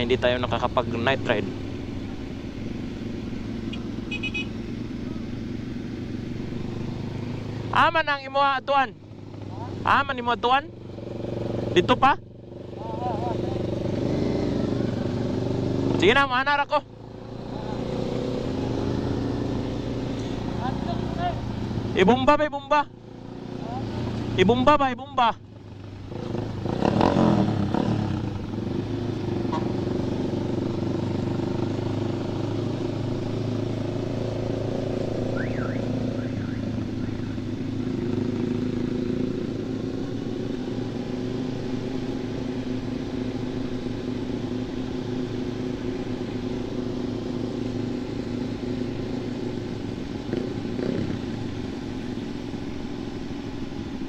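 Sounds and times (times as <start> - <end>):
motorcycle revving and cruising: 0.0 - 54.0.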